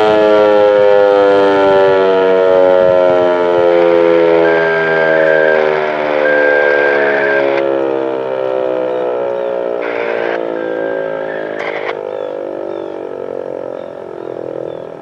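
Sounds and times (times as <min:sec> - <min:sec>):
siren winding down: 0:00.0 - 0:15.0.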